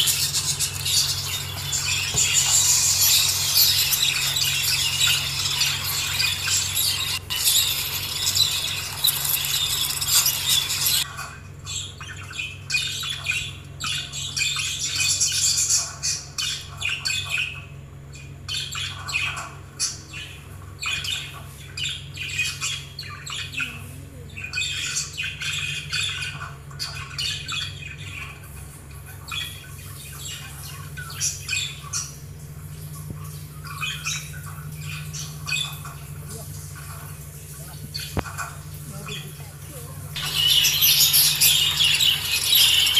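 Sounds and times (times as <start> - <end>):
budgerigars chattering and squawking: 0.0 - 32.2, 32.8 - 42.9
steady low hum: 0.0 - 42.9.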